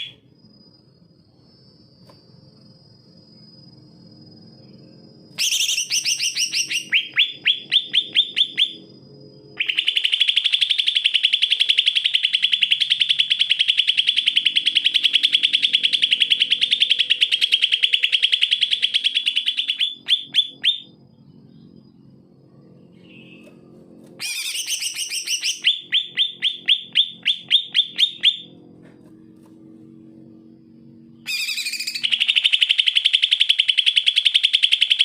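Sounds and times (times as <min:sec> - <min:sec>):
bird singing rising notes: 0:03.4 - 0:35.0.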